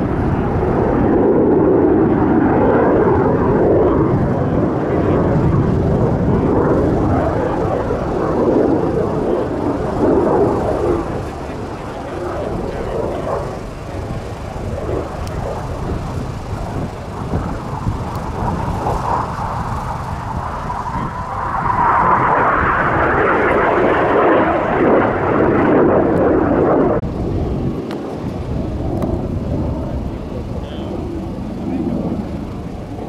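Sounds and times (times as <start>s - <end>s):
jet aircraft rushing past: 0.0s - 33.0s.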